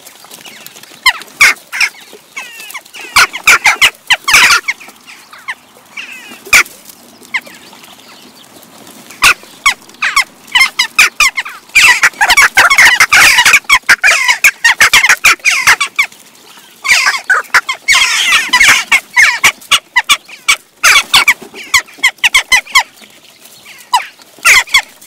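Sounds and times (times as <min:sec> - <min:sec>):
jackdaws calling: 0:00.3 - 0:08.4, 0:09.0 - 0:25.0.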